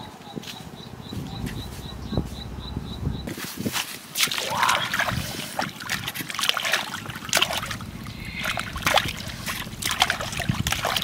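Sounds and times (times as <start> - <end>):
muddy water splashing: 1.4 - 11.0.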